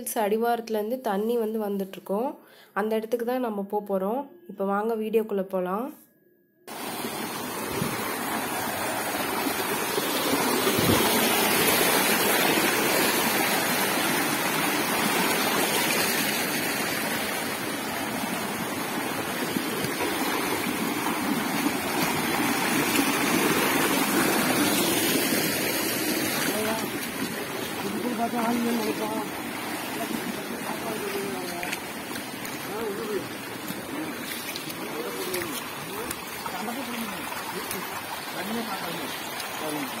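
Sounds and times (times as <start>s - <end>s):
stream rushing over rocks: 6.7s - 40.0s.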